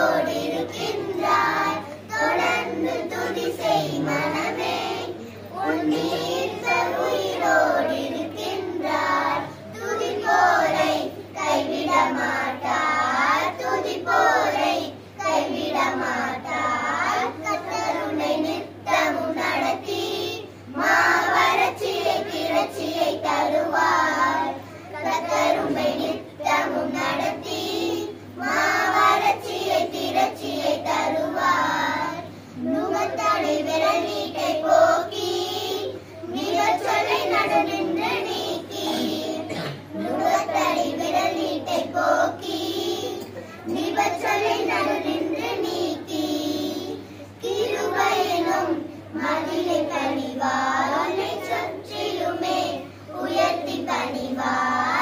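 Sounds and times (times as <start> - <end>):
children singing in chorus: 0.0 - 55.0.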